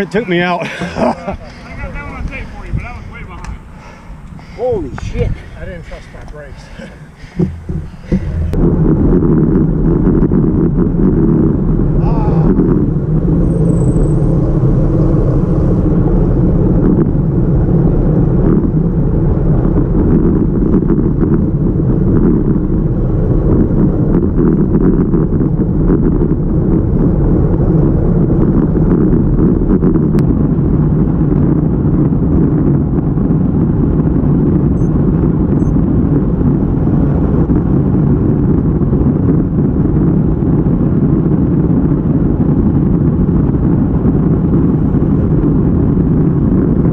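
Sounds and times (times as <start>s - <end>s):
road and tyre noise: 0.0s - 46.9s
wind rumble on microphone: 0.0s - 46.9s.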